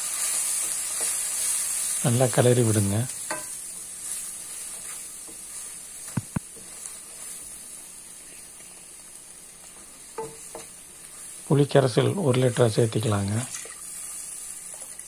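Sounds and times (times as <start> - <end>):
food sizzling in oil: 0.0 - 15.0
wooden spatula stirring: 0.2 - 8.9, 9.6 - 15.0.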